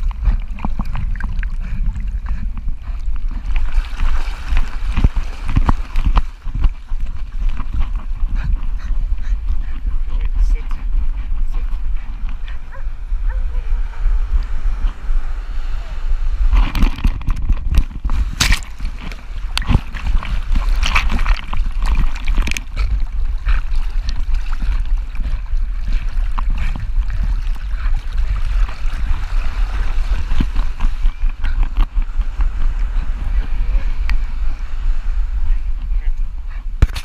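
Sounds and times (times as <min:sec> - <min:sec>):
water splashing and sloshing: 0:00.0 - 0:15.0, 0:16.4 - 0:37.0
wind rumble on microphone: 0:00.0 - 0:37.0.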